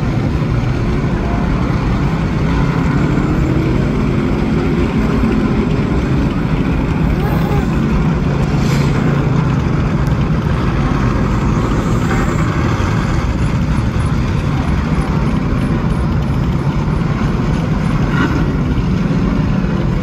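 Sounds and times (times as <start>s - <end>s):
race car engines rumbling: 0.0s - 20.0s.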